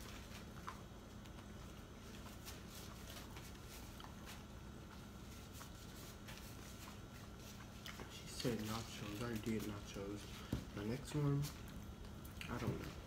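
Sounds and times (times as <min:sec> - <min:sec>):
chewing and mouth clicks: 0:00.0 - 0:09.8, 0:11.6 - 0:12.6
low room hum: 0:00.0 - 0:13.0.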